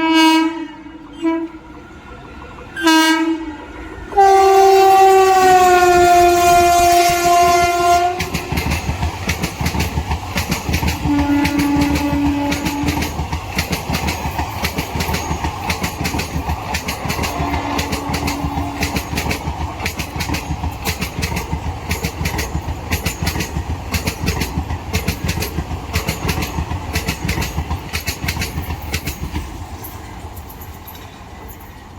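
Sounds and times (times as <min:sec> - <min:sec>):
train wheels clattering over joints: 0:05.9 - 0:31.9.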